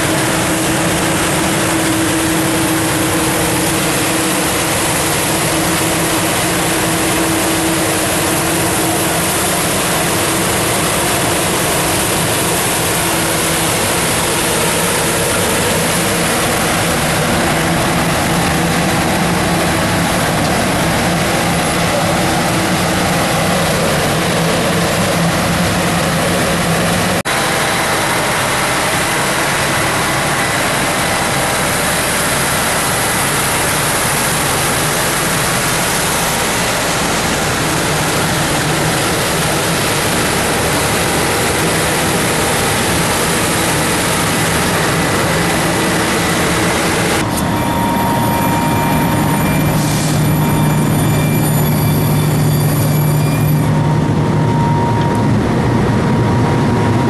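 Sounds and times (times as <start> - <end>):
vacuum air rushing: 0.0 - 50.6
diesel engine drone: 0.0 - 57.0.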